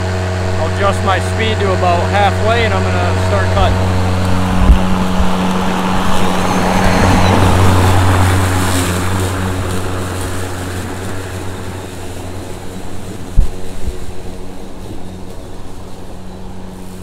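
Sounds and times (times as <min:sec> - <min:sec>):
electric lawn mower humming: 0:00.0 - 0:17.0
mower blade cutting grass: 0:00.0 - 0:17.0.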